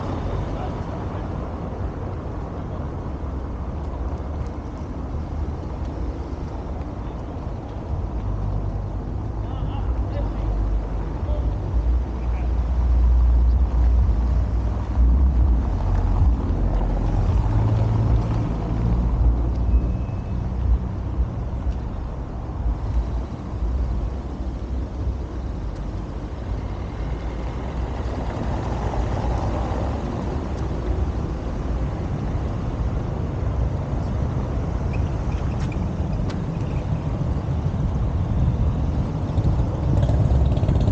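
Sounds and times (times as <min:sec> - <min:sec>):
car rumbling on cobblestones: 0:00.0 - 0:40.9.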